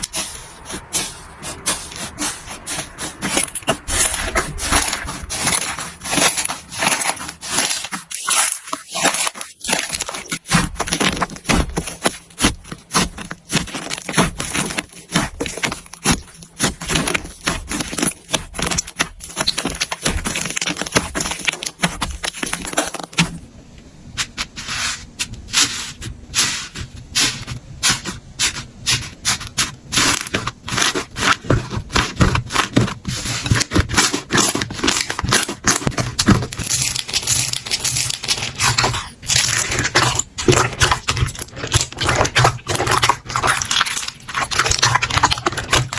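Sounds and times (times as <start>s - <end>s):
slime crackling and clicking: 1.9s - 23.2s, 29.5s - 45.9s.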